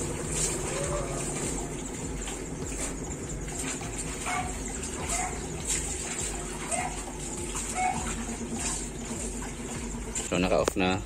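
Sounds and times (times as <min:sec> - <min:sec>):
washing machine motor hum: 0:00.0 - 0:11.0
water swishing in tub: 0:00.0 - 0:11.0.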